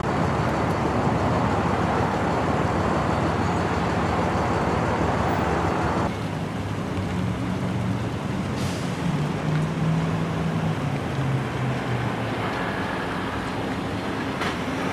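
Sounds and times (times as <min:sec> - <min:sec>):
road traffic hiss: 0:00.0 - 0:14.9.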